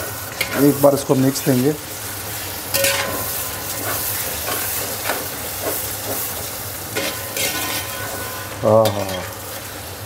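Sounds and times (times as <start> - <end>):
steady sizzle: 0.0 - 10.0.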